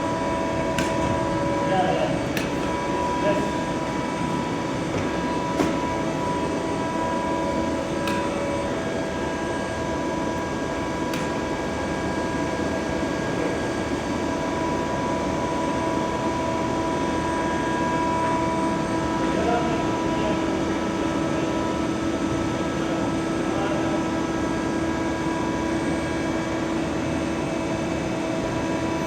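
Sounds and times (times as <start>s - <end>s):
cnc machine humming and whining: 0.0s - 29.0s.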